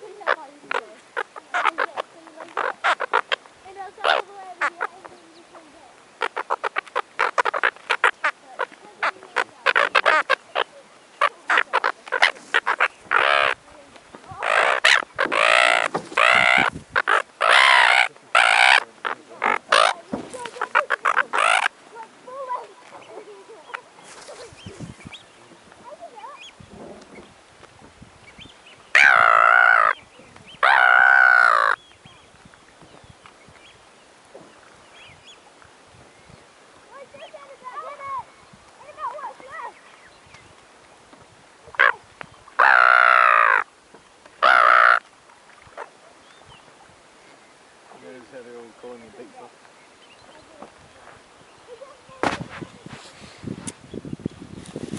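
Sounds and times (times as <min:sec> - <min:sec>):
gulls calling: 0:00.0 - 0:27.4, 0:28.2 - 0:52.9.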